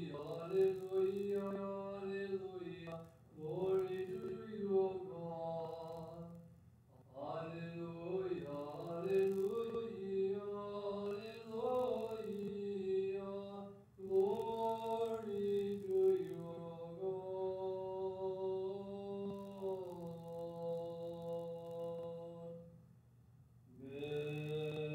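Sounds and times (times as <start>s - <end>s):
man chanting unaccompanied: 0.0s - 6.4s, 7.2s - 22.6s.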